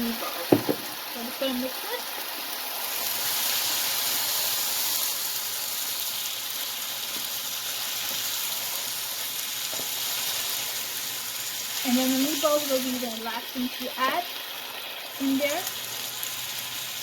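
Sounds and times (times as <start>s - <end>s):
sauce sizzling in a pan: 0.0s - 17.0s.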